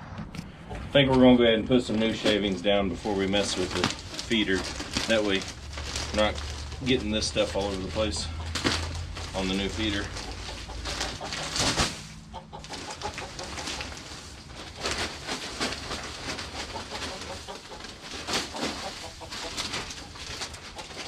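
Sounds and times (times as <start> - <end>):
chickens clucking: 0.5 - 21.0
wood shavings rustling and scraping: 0.7 - 21.0.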